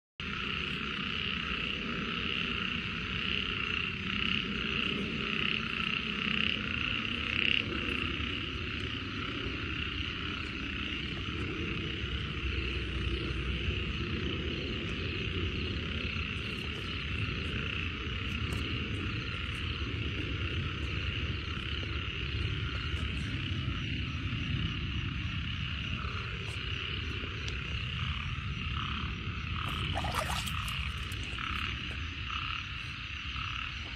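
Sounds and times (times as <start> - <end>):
chorus of frogs calling: 0.2 - 24.2, 25.0 - 33.9.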